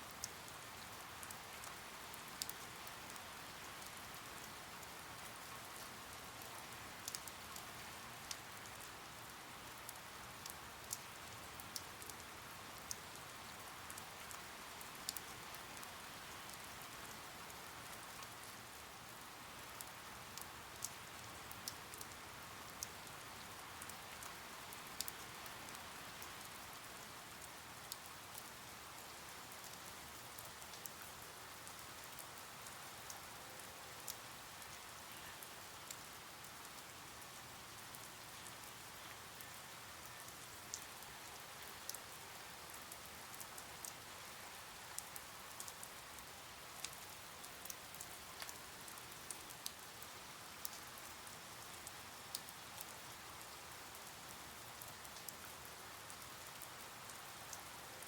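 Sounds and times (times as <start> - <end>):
rain hiss: 0.0 - 58.0
rain drop ticks: 0.1 - 57.8.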